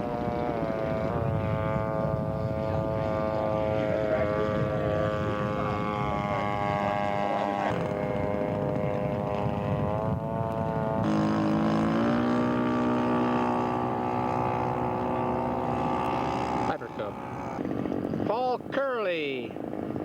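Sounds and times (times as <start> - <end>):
model airplane engines running: 0.0 - 20.0.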